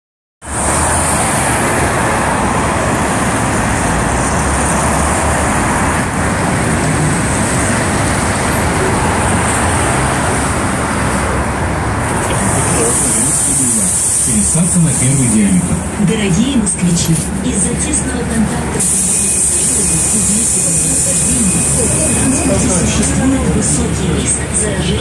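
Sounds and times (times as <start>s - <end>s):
city road traffic: 0.4s - 25.0s.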